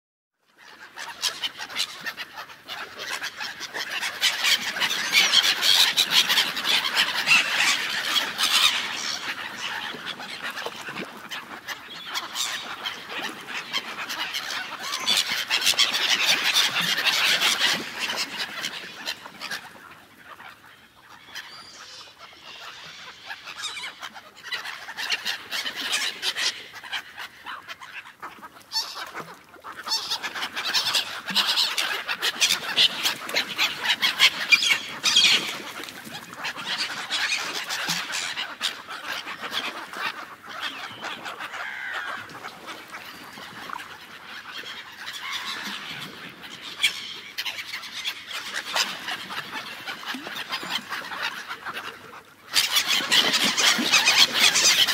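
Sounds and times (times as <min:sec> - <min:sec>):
flock of gulls squawking: 0:00.7 - 0:54.9.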